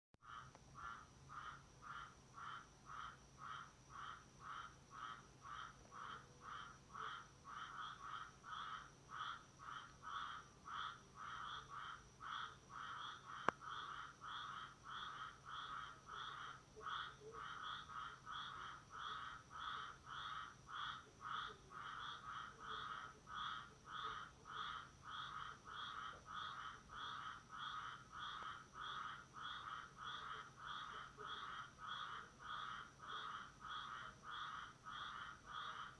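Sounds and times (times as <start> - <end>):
tree frogs calling: 0.2 - 35.9.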